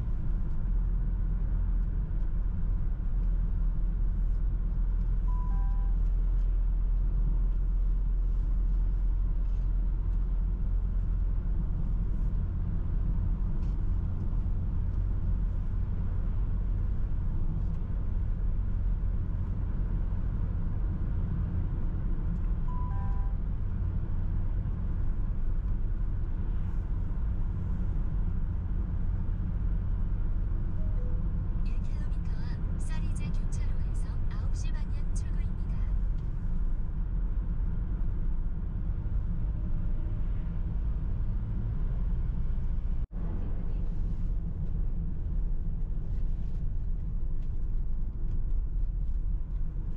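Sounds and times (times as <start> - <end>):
car cabin road and engine rumble: 0.0 - 49.9.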